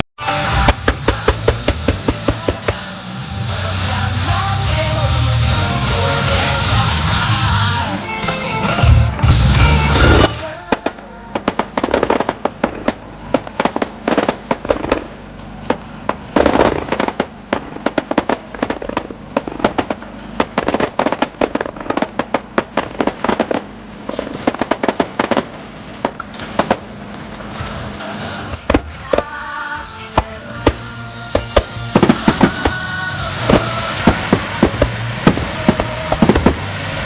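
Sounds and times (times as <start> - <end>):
fireworks popping and crackling: 0.3 - 3.2, 5.1 - 29.4, 30.2 - 37.0.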